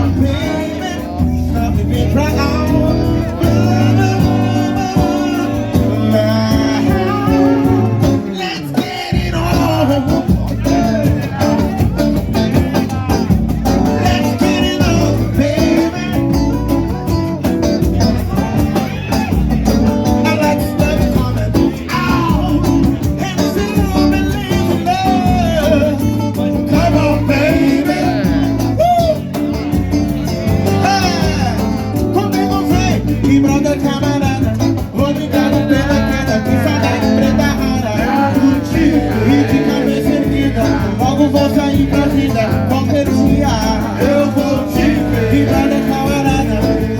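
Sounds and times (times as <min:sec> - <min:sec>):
guitar: 0:00.0 - 0:46.9
live band music with steady beat: 0:00.0 - 0:46.9
person singing: 0:00.0 - 0:46.9.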